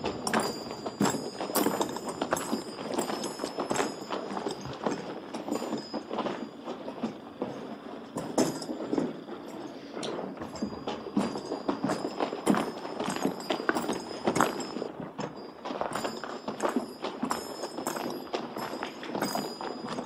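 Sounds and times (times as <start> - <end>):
footsteps on wooden boards: 0.0 - 20.0.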